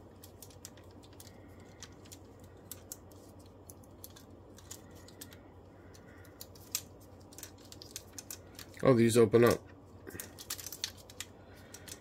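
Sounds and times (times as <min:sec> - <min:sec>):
plastic parts clicking: 0:00.2 - 0:08.8, 0:10.1 - 0:12.0.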